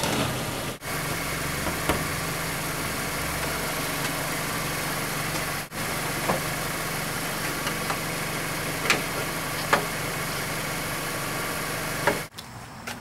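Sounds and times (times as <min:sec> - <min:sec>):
car engine idling: 0:00.0 - 0:12.3.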